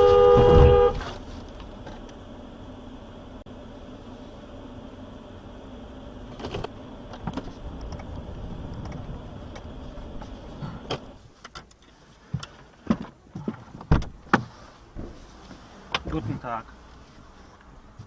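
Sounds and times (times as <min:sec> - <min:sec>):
car engine and road drone: 0:00.0 - 0:18.0.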